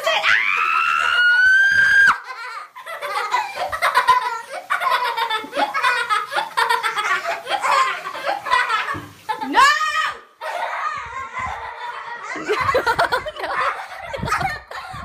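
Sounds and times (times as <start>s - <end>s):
girls laughing: 0.0s - 15.0s.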